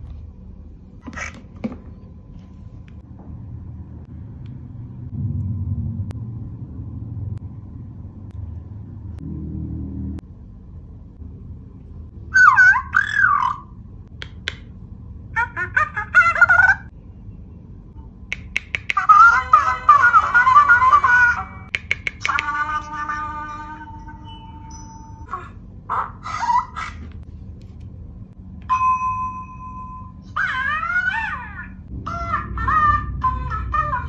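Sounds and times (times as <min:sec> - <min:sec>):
low rumbling hum: 0:00.0 - 0:34.0.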